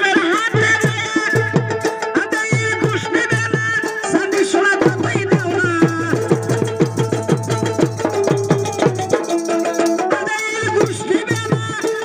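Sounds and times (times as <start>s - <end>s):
hand drum beating: 0.0s - 12.0s.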